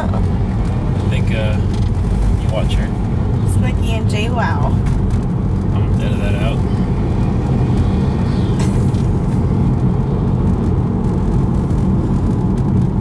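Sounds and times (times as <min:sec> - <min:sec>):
car interior road noise: 0:00.0 - 0:13.0.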